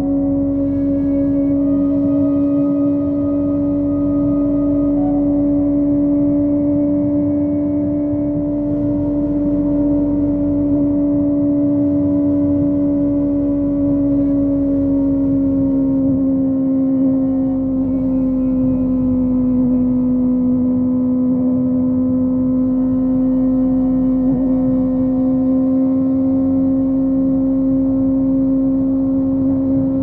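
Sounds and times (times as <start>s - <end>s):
motorcycle engine high-revving drone: 0.0s - 30.0s.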